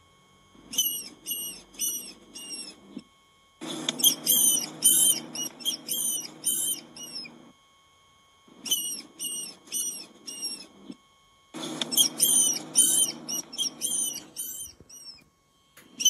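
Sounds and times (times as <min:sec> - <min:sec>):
small rodent squeaking: 0:00.6 - 0:03.0, 0:03.6 - 0:07.4, 0:08.6 - 0:11.0, 0:11.6 - 0:16.0.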